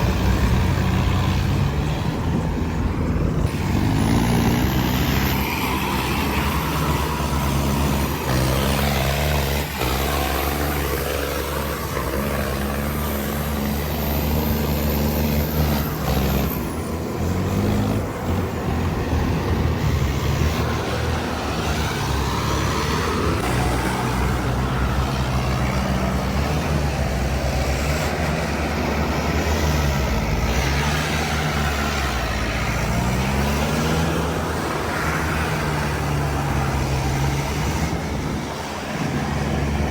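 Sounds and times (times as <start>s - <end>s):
heavy diesel engine running hard: 0.0s - 39.9s.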